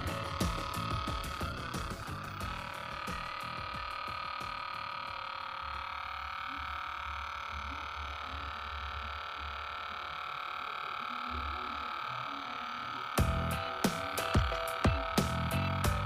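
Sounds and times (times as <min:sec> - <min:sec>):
small motor whining and humming: 0:00.0 - 0:16.0.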